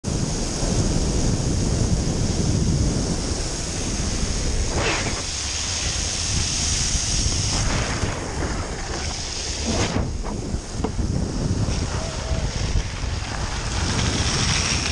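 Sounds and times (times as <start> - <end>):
wind buffeting microphone: 0.0 - 14.9
wheels rolling on wet asphalt: 0.1 - 14.9.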